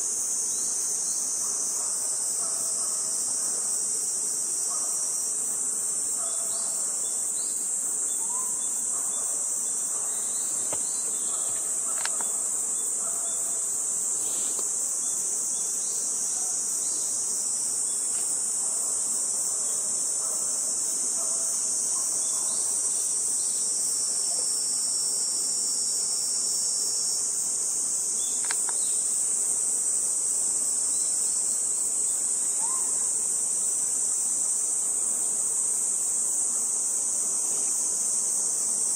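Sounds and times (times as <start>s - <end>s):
insects shrill drone: 0.0s - 38.9s.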